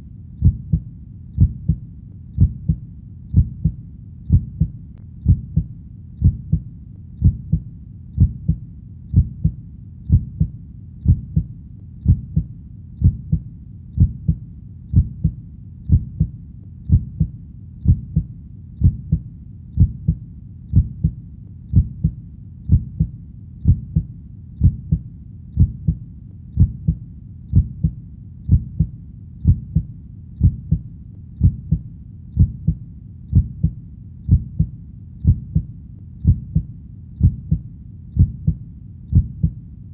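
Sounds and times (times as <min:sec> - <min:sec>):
heartbeat thumps: 0:00.0 - 0:39.6
faint low hum: 0:00.0 - 0:39.9.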